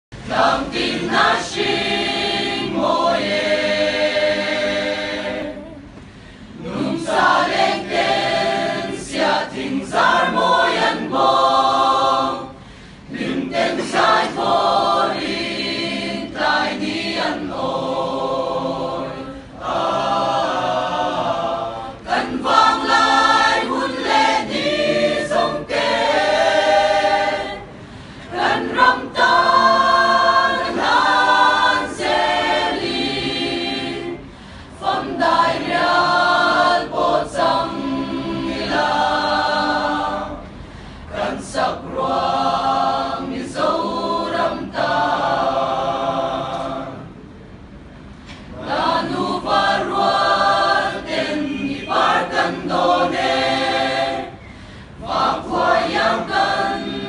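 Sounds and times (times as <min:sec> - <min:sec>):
mixed choir singing unaccompanied: 0:00.1 - 0:47.2, 0:48.4 - 0:57.0.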